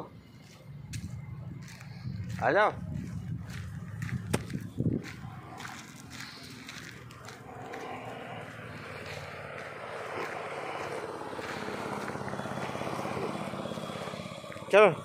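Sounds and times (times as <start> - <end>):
passing traffic engine noise: 0.0 - 15.0.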